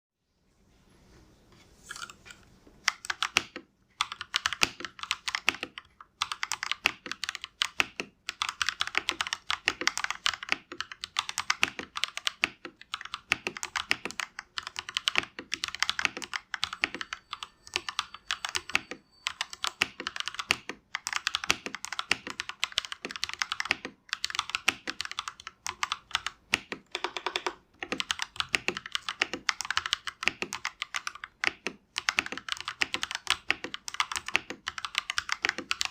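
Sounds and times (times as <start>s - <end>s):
fast typing on mechanical keyboard: 2.9s - 35.9s.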